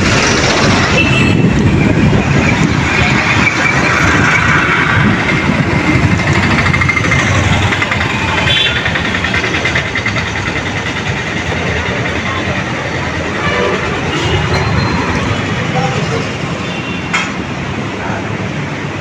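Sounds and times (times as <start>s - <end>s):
motorbikes: 0.0s - 19.0s
traffic engine and tyre noise: 0.0s - 19.0s.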